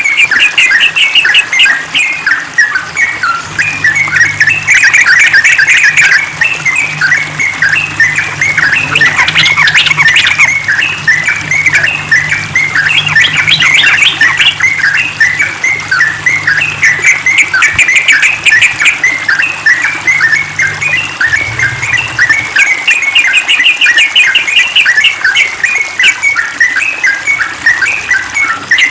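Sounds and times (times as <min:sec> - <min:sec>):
bird chattering song: 0:00.0 - 0:28.9.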